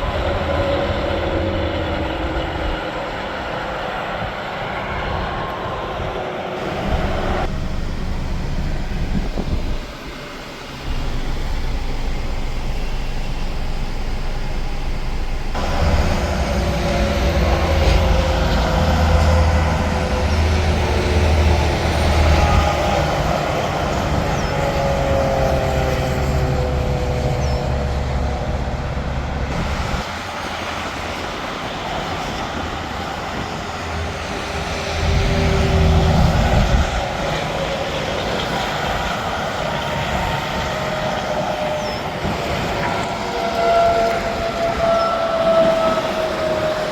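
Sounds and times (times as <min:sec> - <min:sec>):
trucks passing on highway: 0:06.6 - 0:46.9.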